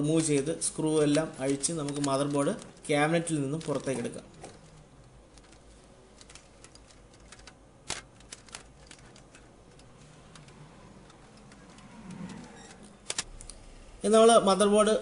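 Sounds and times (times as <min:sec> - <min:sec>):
cable connectors clicking: 0:00.1 - 0:13.6.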